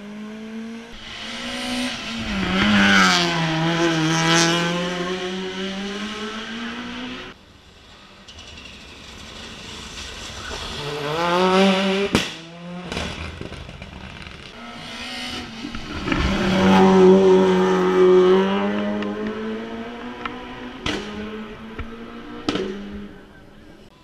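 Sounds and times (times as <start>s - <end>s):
race car engine revving: 0.0s - 7.4s, 9.0s - 13.0s, 14.5s - 23.9s.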